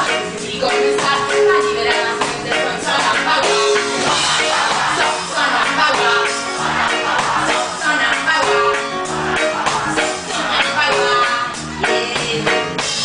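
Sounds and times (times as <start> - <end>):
person singing: 0.0 - 13.0
reggae band playing: 0.0 - 13.0.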